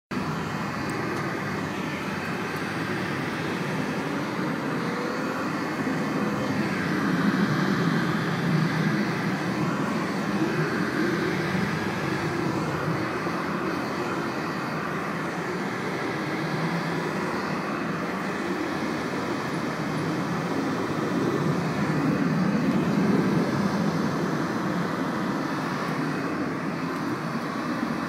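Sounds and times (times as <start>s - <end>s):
heat gun fan blowing: 0.1s - 28.0s.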